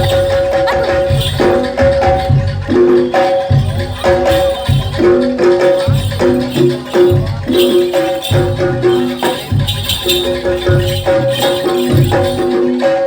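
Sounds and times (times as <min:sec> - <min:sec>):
gamelan music: 0:00.0 - 0:13.0
jingling percussion: 0:00.0 - 0:13.0
metal percussion melody: 0:00.0 - 0:13.0.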